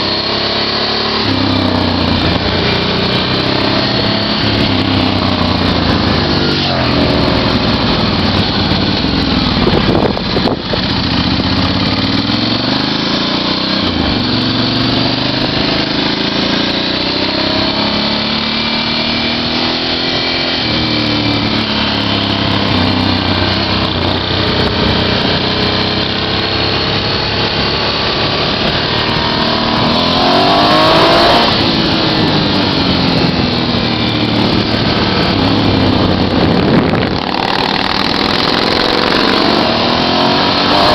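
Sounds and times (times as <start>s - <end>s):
small motorcycle engine revving: 0.0s - 40.9s.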